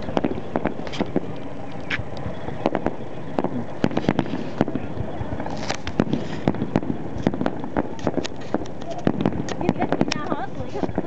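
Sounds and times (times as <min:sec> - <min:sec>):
fireworks bangs and cracks: 0:00.0 - 0:11.0
fireworks hissing crackles: 0:00.0 - 0:11.0.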